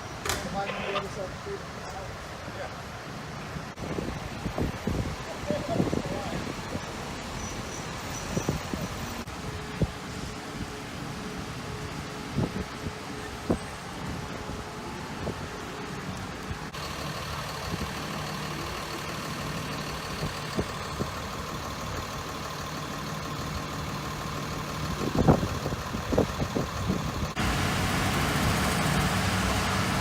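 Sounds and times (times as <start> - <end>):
vehicle engine idling: 0.1 - 30.0.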